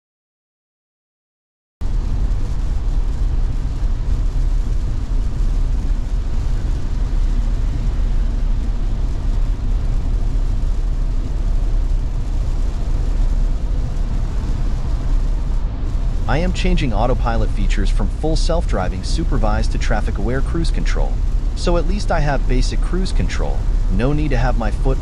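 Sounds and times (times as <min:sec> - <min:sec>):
car driving on wet road: 0:01.8 - 0:25.0
heavy rain: 0:01.8 - 0:25.0.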